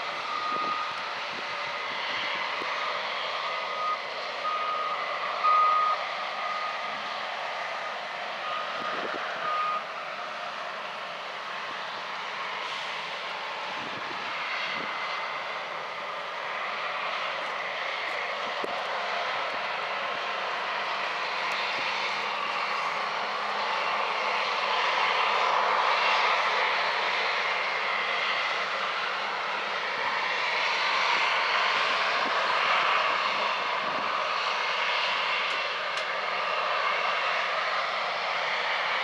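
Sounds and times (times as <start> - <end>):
harvest machinery droning: 0.0 - 39.0.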